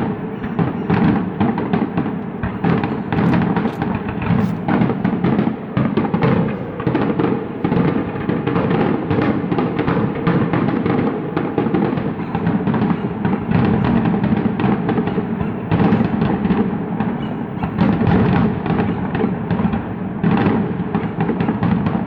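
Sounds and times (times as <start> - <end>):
fireworks booms and bangs: 0.0 - 22.0.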